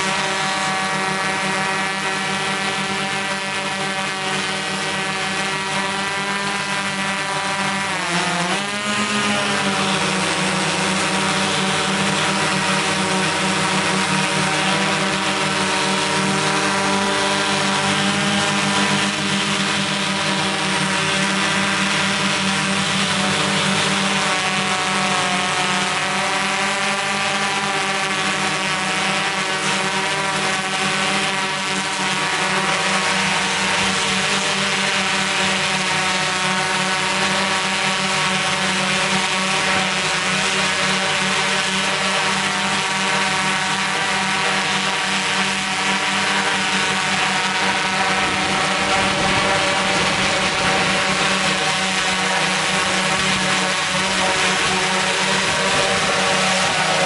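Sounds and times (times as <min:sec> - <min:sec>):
motor drone: 0:00.0 - 0:57.0.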